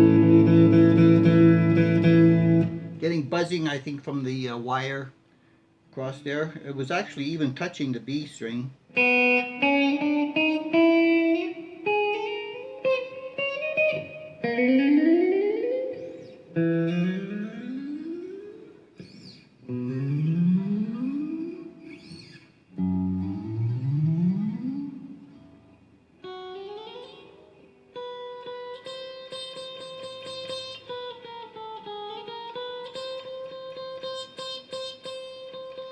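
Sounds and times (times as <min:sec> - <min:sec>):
electric guitar playing: 0:00.0 - 0:03.9, 0:08.9 - 0:35.9.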